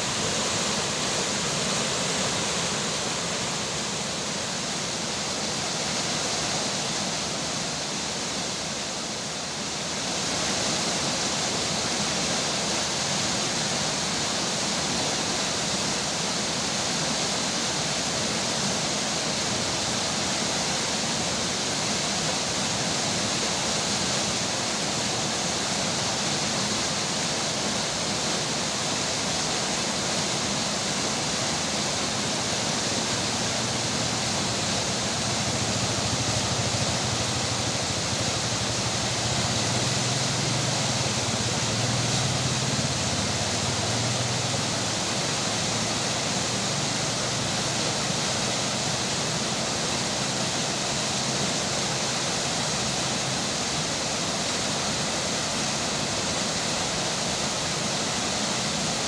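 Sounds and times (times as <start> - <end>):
rain falling: 0.0 - 5.6, 17.2 - 59.0
river water flowing: 0.0 - 59.0.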